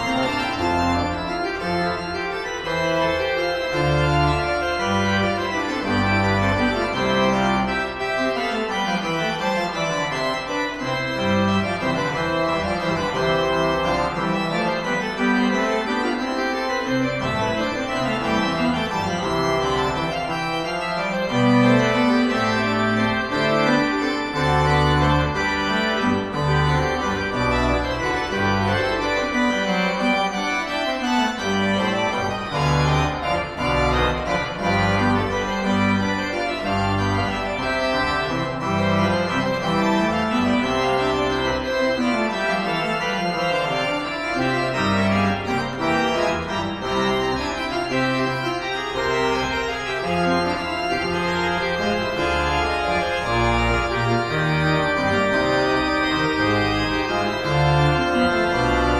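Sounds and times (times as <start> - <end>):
pipe organ playing chords: 0.0 - 58.9.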